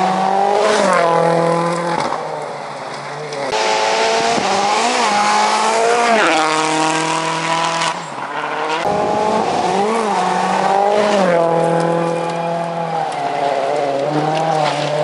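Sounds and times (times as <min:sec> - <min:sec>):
rally car engines at high revs: 0:00.0 - 0:15.0.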